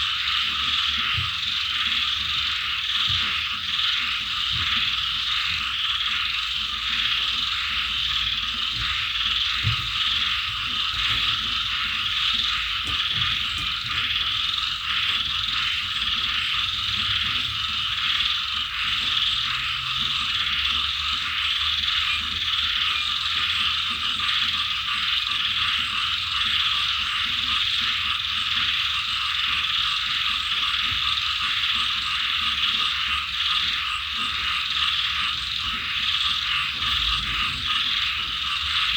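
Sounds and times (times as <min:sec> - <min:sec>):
chorus of frogs croaking: 0:00.0 - 0:38.9.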